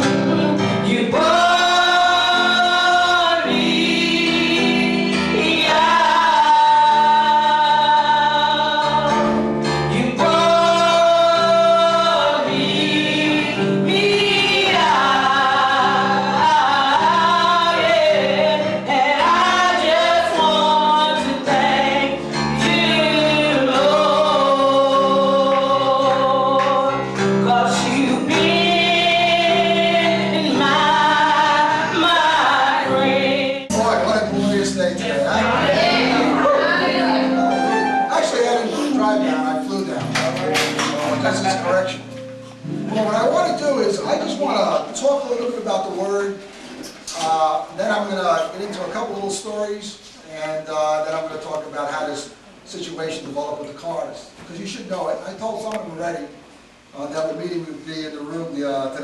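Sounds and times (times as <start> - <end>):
choir singing gospel music: 0.0 - 52.1.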